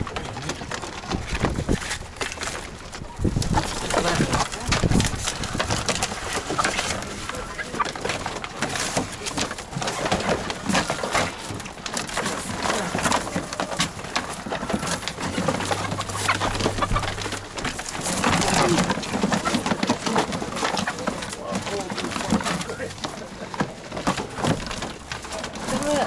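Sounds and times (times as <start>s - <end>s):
cardboard boxes being handled: 0.0s - 26.0s
hens clucking: 0.0s - 26.0s
wings flapping: 0.0s - 26.0s.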